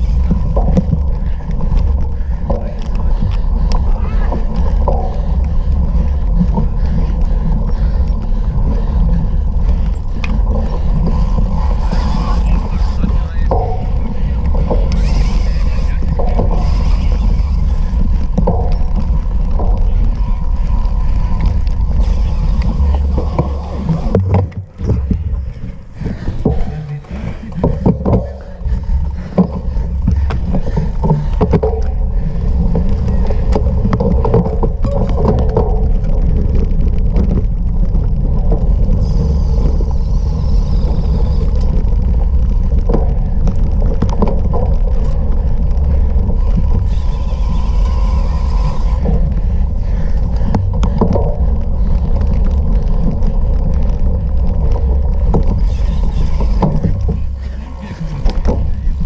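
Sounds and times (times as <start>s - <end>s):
bicycle clicking and rattling: 0.0s - 59.0s
wind rumbling on microphone: 0.0s - 59.0s.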